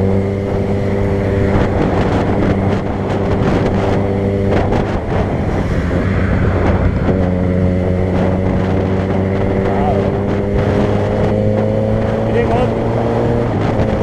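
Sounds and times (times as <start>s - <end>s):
vehicle engine droning: 0.0s - 14.0s
wind noise on microphone: 0.0s - 14.0s.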